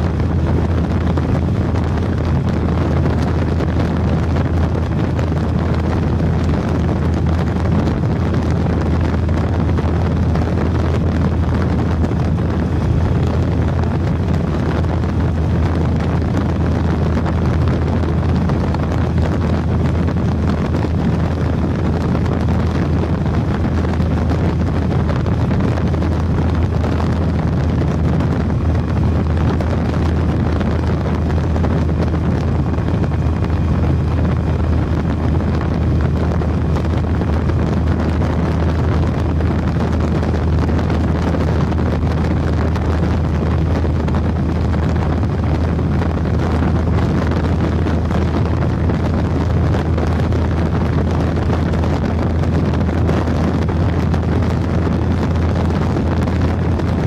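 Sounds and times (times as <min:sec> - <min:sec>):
motorcycle engine droning: 0:00.0 - 0:57.0
wind rush over microphone: 0:00.0 - 0:57.0.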